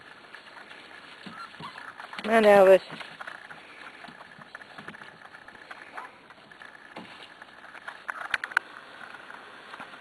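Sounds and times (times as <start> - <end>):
puppies clicking and tapping: 0.3 - 9.9.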